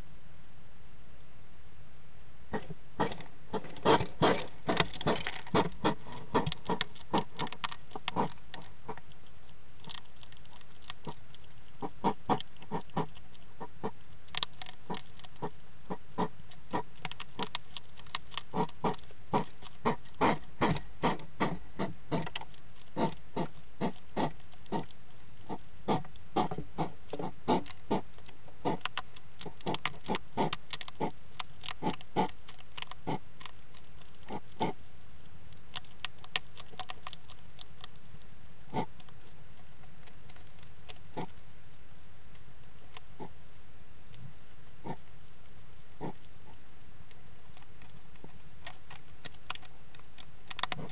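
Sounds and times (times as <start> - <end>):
hedgehogs crunching dry kibble: 2.5 - 41.7, 46.0 - 50.9.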